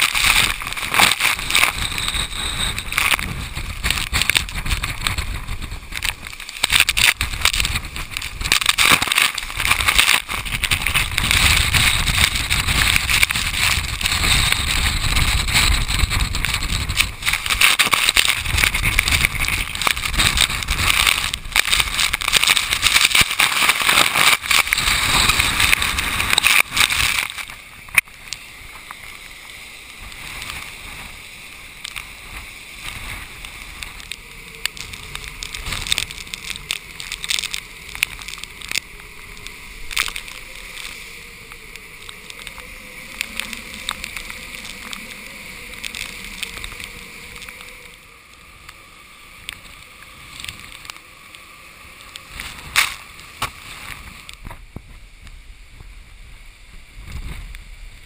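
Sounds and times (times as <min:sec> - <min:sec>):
heavy wind rushing: 0:00.0 - 0:58.0.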